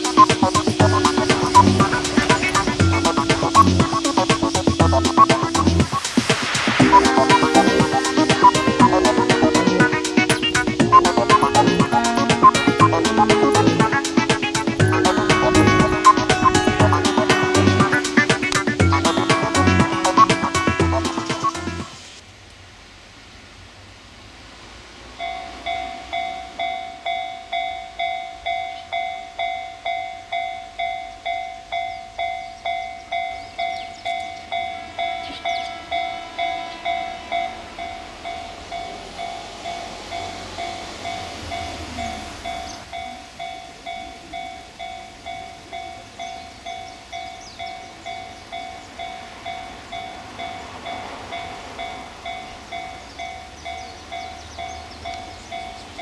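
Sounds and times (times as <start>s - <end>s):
level crossing warning bell: 0.0s - 6.0s, 6.8s - 22.0s, 25.2s - 56.0s
train rumble: 0.0s - 22.2s, 24.3s - 56.0s.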